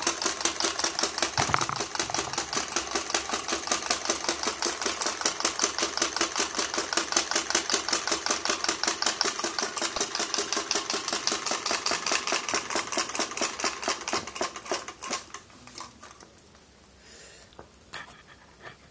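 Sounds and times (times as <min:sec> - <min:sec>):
model engine clicking: 0:00.0 - 0:16.2.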